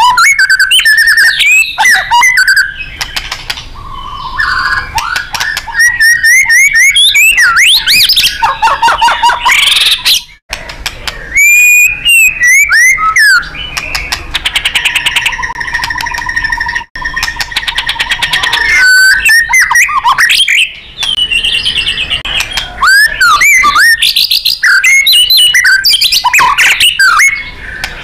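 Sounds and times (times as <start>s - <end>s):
bird singing whistled phrases: 0.0s - 3.1s, 3.8s - 8.5s, 9.1s - 10.4s, 11.2s - 27.9s.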